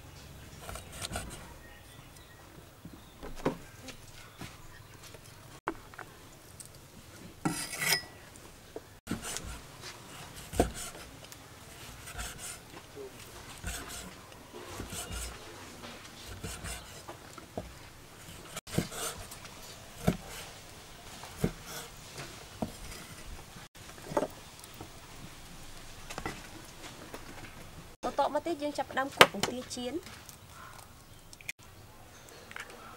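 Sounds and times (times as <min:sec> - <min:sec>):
faint rustling and handling: 0:02.9 - 0:30.7.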